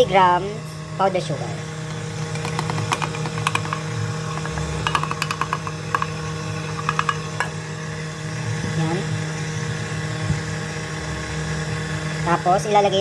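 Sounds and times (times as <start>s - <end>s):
stand mixer motor hum: 0.8s - 12.8s.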